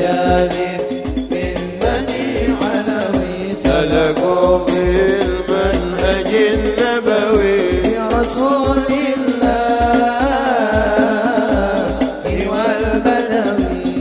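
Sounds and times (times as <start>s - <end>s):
deep drum beat: 0.0s - 14.0s
man singing into a microphone: 0.0s - 14.0s.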